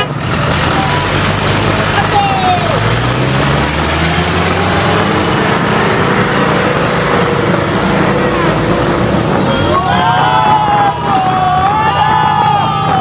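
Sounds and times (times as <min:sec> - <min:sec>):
road and traffic noise: 0:00.0 - 0:13.0
truck diesel engine droning: 0:00.0 - 0:13.0.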